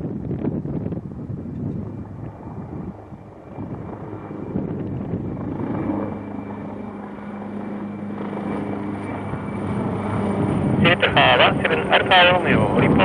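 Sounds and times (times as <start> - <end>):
aircraft engine drone: 0.0 - 13.0
gusty wind on microphone: 0.0 - 13.0.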